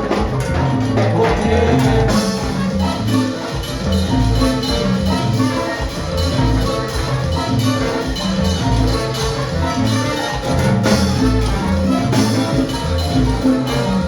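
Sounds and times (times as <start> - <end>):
salsa band playing live: 0.0 - 14.0.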